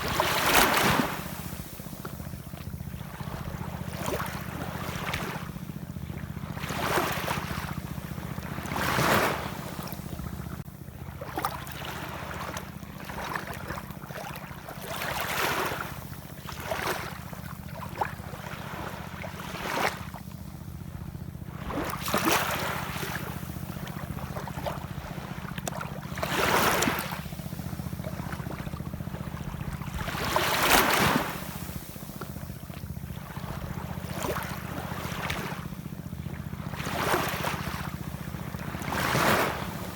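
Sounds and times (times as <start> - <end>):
steady low rumble: 0.0 - 15.0, 15.6 - 39.9
ocean waves washing ashore: 0.0 - 20.6, 21.3 - 39.9.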